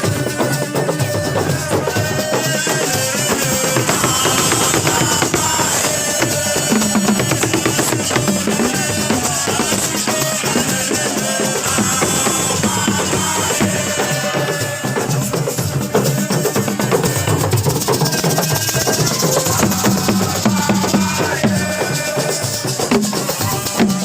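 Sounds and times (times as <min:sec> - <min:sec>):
drum-led music: 0:00.0 - 0:24.0.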